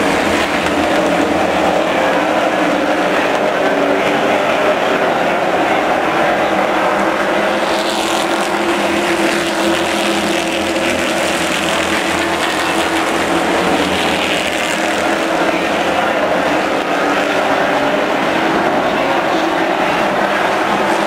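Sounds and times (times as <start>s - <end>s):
race cars racing past: 0.0s - 21.0s.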